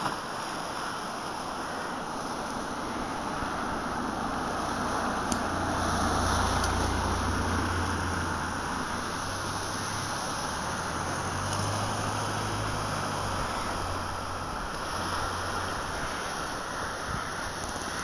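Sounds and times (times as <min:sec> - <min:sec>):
sea surf: 0:00.0 - 0:18.0
wind rumbling on microphone: 0:00.0 - 0:18.0.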